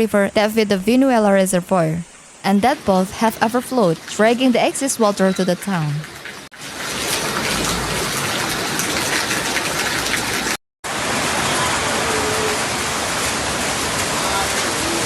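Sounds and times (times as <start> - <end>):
heavy torrential rain: 2.1 - 15.0.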